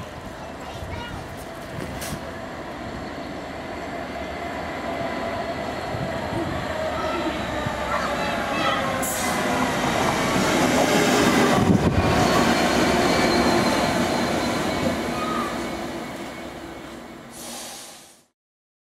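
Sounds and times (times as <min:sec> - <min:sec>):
diesel freight train passing: 0:00.0 - 0:18.2.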